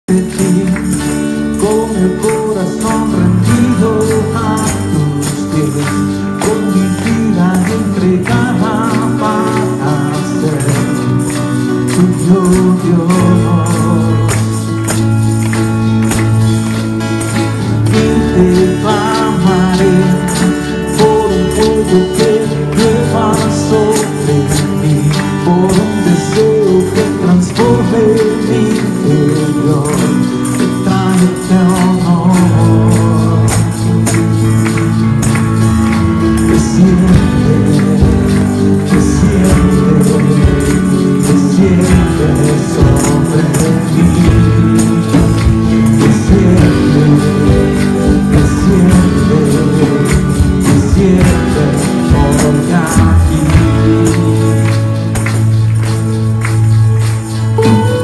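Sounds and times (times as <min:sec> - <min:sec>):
worship band playing: 0:00.0 - 0:58.0
tambourines jingling: 0:00.1 - 0:58.0.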